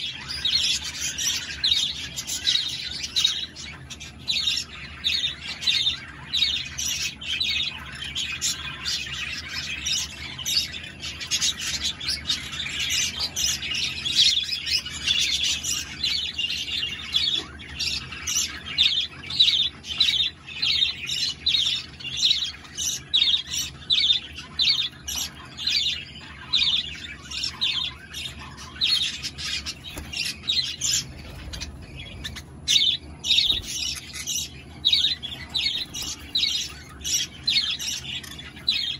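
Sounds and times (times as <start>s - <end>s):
parrots chirping: 0.0s - 38.9s.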